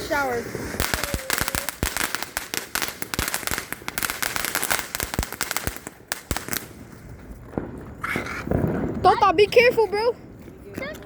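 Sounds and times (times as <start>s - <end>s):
crackling firework pops: 0.0s - 11.0s.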